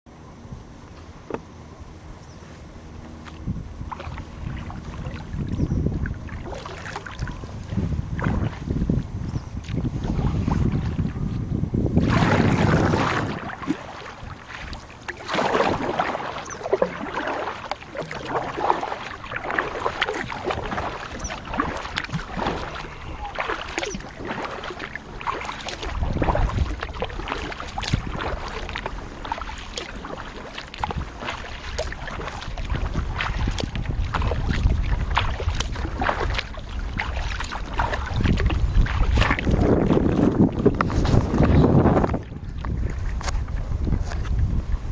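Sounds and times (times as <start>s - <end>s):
wind rumble on microphone: 0.3s - 44.9s
kayak paddle splashing in water: 3.1s - 44.6s.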